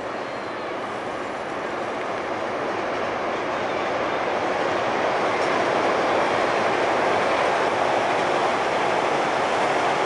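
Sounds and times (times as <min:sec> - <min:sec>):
electric train crossing steel bridge: 0:00.0 - 0:10.0.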